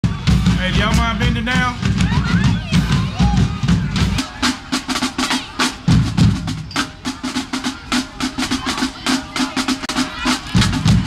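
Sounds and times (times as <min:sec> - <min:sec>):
drum and rim strokes: 0:00.0 - 0:11.0.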